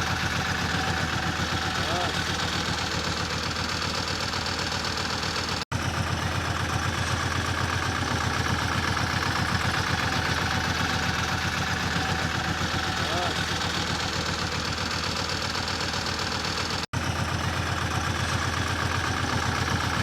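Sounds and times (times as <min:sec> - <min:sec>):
road roller engine running: 0:00.0 - 0:20.0.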